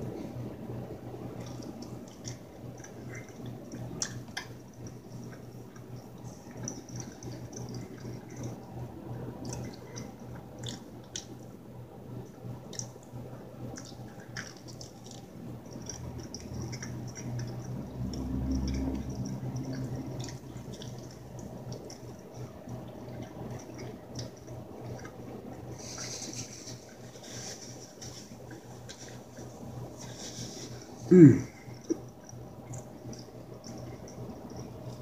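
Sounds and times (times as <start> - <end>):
wet chewing of pizza: 0.8 - 35.0.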